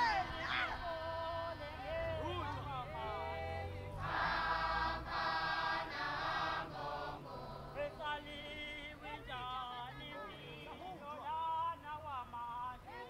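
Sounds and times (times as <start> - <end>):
group of voices chanting: 0.0 - 11.2.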